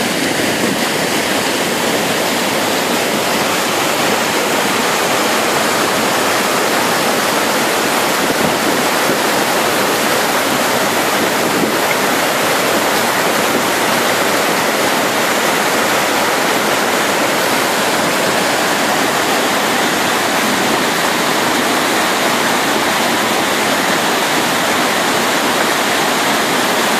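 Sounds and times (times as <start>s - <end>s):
water rushing down spillway: 0.0s - 26.9s.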